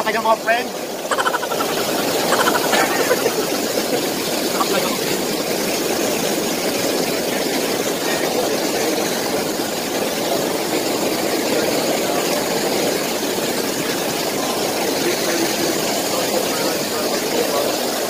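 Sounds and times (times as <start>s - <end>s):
water jets churning: 0.0s - 18.0s.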